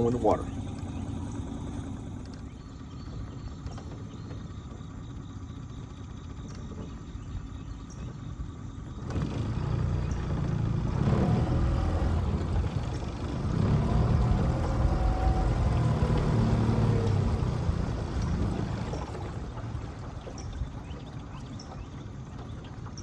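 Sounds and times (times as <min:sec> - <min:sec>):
outboard motor rumbling: 0:00.0 - 0:23.0.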